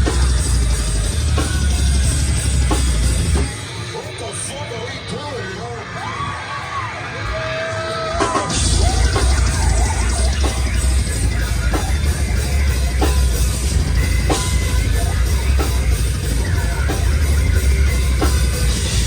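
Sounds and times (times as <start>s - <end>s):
heavy rock band playing live: 0.0s - 19.0s.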